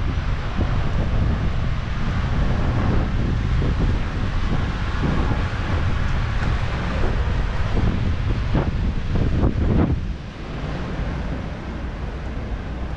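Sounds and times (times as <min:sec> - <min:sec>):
city street traffic hiss: 0:00.0 - 0:12.9
wind buffeting microphone: 0:00.0 - 0:12.9.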